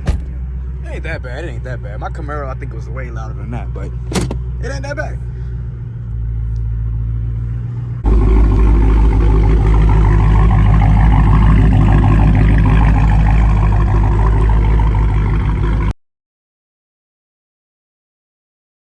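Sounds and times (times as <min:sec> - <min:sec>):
car engine idling with deep rumble: 0:00.0 - 0:15.9.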